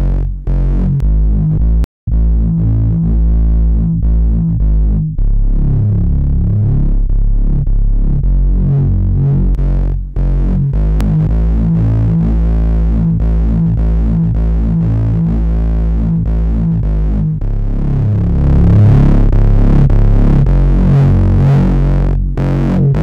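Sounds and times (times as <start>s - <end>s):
distorted bass instrumental music: 0.0s - 23.0s.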